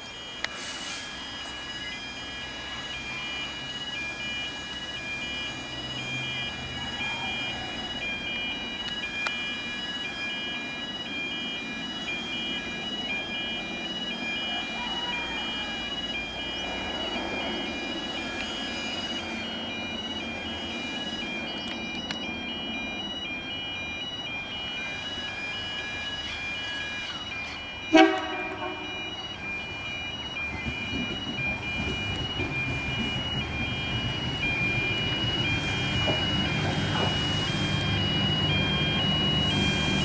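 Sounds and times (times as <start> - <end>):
diesel railcar rumble: 0.0 - 40.0
two-tone crossing alarm: 0.0 - 40.0.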